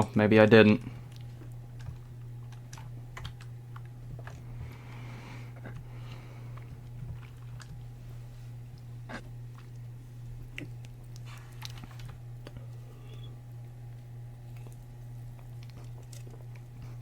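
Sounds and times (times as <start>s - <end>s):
computer humming: 0.0s - 17.0s.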